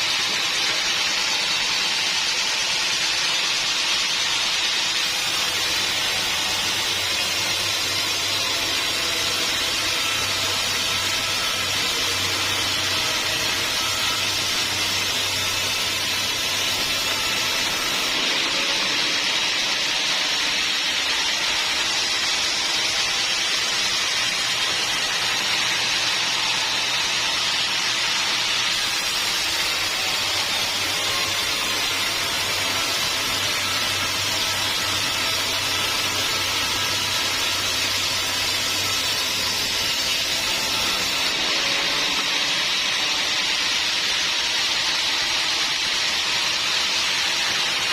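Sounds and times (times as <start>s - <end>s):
saw hissing: 0.0s - 47.9s.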